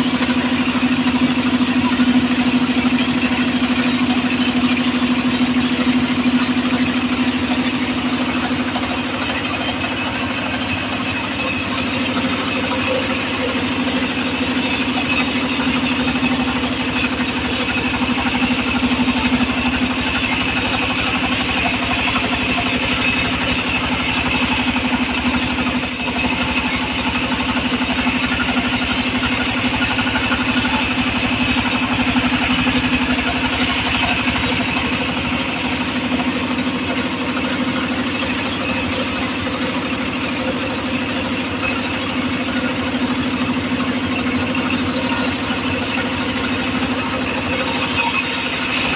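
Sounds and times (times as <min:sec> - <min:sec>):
sawmill engine running: 0:00.0 - 0:48.9.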